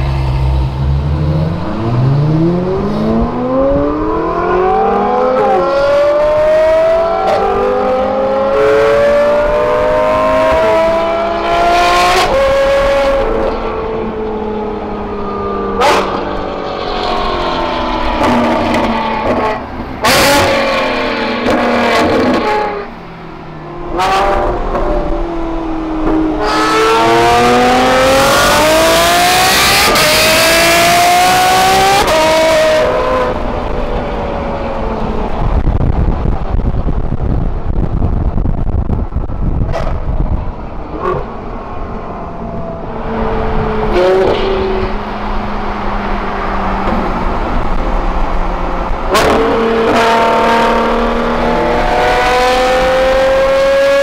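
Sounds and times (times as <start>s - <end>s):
sports car engines revving: 0.0s - 54.0s.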